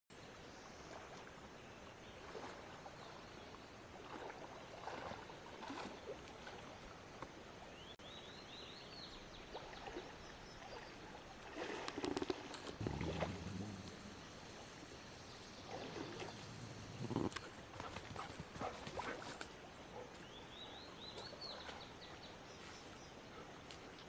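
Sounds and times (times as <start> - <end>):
shallow river water lapping: 0.2 - 24.0.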